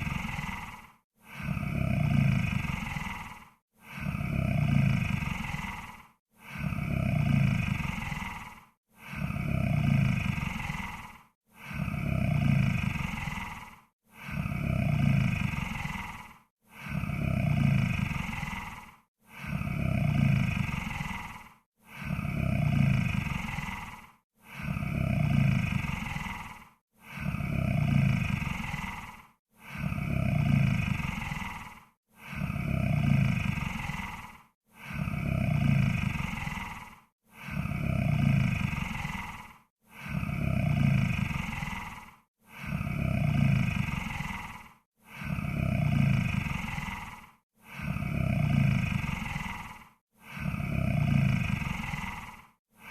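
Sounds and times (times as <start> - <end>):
monster snoring growls: 0.0 - 52.9.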